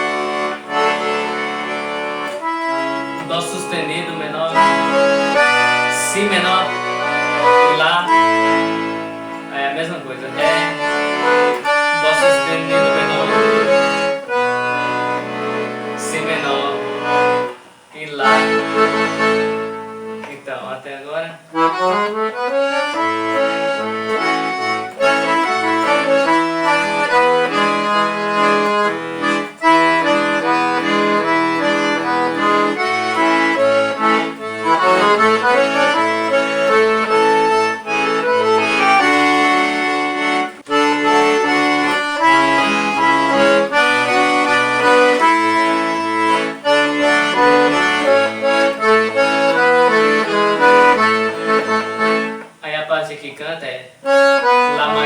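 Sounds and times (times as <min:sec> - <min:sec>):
accordion playing lively tune: 0:00.0 - 0:53.2, 0:54.0 - 0:55.0.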